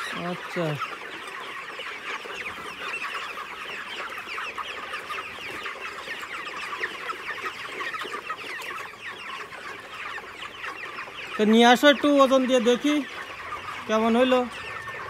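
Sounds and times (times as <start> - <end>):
chickens peeping and clucking: 0.0 - 15.0.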